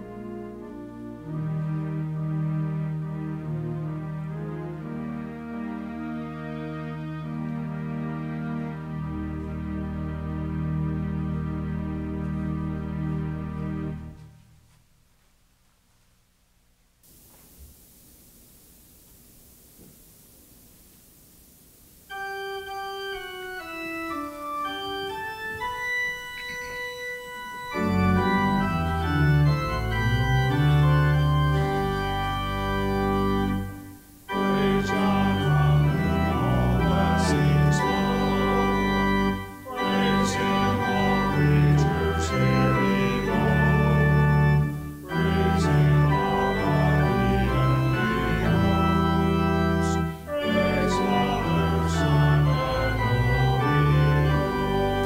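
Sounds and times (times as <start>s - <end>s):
church organ playing hymn: 0.0s - 14.4s, 22.1s - 55.0s.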